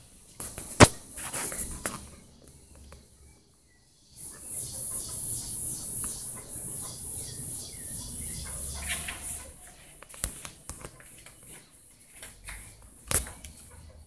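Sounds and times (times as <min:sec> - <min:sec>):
insects chirping: 0:00.0 - 0:11.9.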